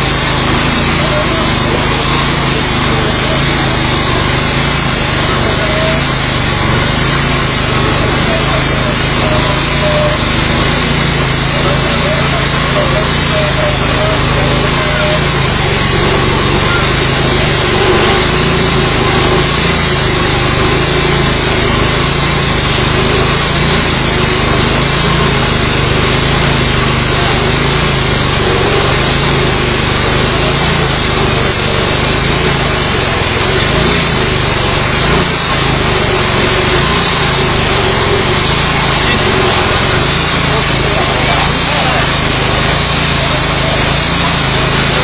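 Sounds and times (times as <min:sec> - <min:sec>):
abrasive disc grinding steel: 0:00.0 - 0:45.0
small engine under load: 0:00.0 - 0:45.0.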